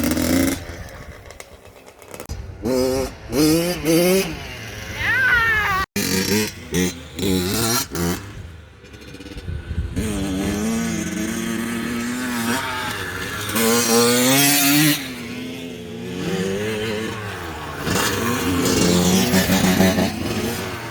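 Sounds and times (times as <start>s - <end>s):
two-stroke engine revving: 0.0s - 5.0s, 6.0s - 20.9s.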